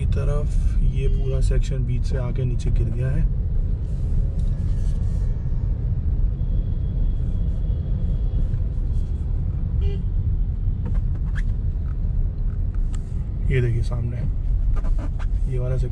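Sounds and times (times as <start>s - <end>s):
car cabin road rumble: 0.0s - 15.9s.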